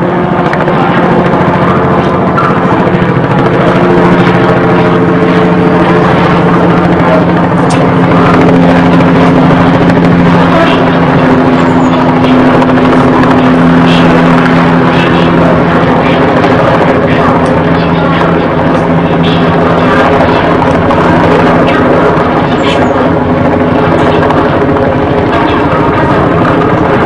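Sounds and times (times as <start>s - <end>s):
helicopter engine hum: 0.0s - 27.0s
helicopter rotor beat: 0.0s - 27.0s.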